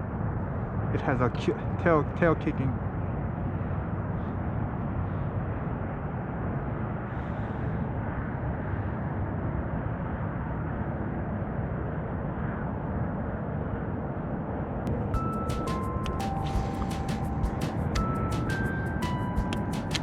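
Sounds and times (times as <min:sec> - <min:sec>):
wind rumbling across microphone: 0:00.0 - 0:20.0.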